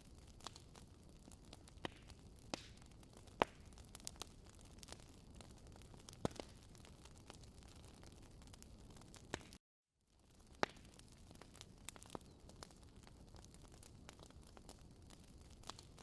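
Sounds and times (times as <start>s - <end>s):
burning wood popping and snapping: 0.0s - 9.6s, 10.2s - 16.0s.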